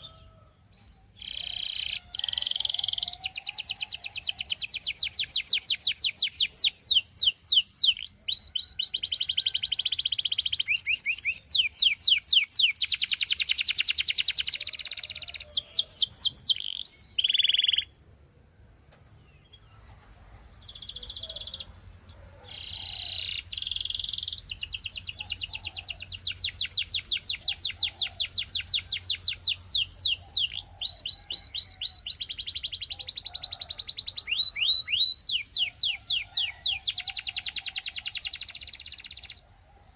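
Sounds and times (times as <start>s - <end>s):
canary trilling: 0.0s - 17.9s, 20.0s - 39.4s.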